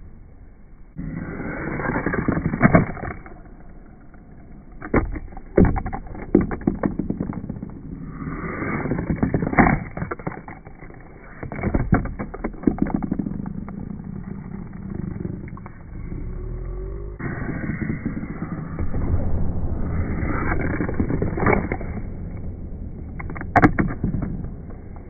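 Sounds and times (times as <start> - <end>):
toy skateboard wheels rumbling: 0.9 - 19.2, 20.0 - 25.0.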